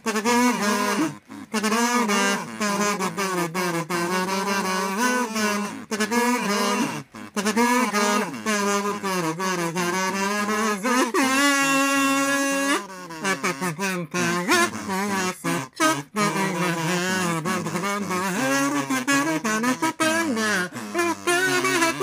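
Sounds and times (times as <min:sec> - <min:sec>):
kazoo bass line: 0:00.0 - 0:22.0
kazoos buzzing a melody: 0:00.0 - 0:22.0.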